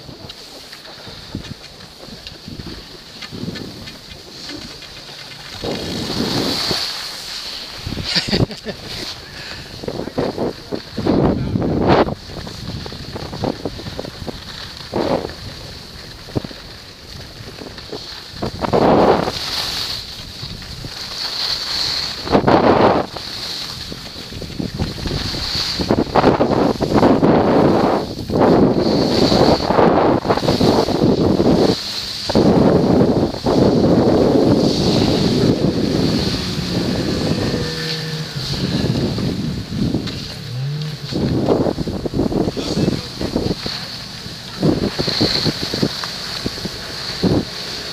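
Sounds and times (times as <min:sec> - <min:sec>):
skis sliding on packed snow: 0:00.0 - 0:47.9
wind rushing over microphone: 0:00.0 - 0:47.9.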